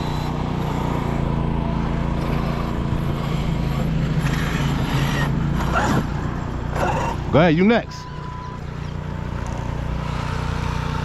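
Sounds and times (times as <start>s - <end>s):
electric motor drone: 0.0s - 11.0s.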